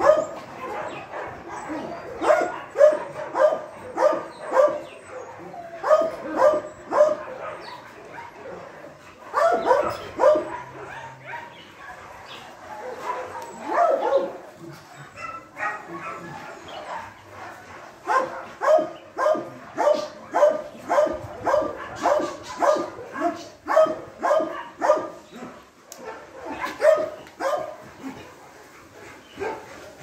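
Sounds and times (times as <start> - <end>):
dog barking: 0.0 - 8.7, 9.3 - 14.4, 15.2 - 25.2, 25.9 - 27.8, 29.4 - 29.7.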